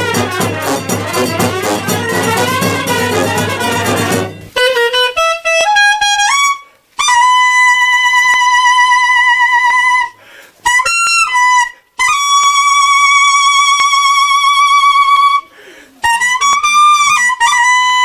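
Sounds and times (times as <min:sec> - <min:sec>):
solo wind instrument melody: 0:00.0 - 0:18.0.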